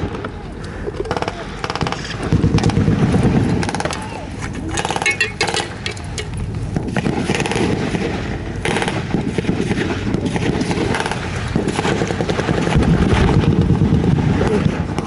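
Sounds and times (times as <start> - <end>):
low rumble: 0.0 - 15.0
rapid blank gunfire: 1.0 - 4.0, 4.8 - 5.8, 6.5 - 15.0.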